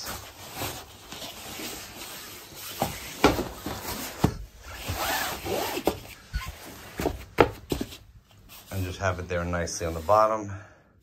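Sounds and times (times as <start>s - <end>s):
fabric mattress pad rustling: 0.0s - 10.3s.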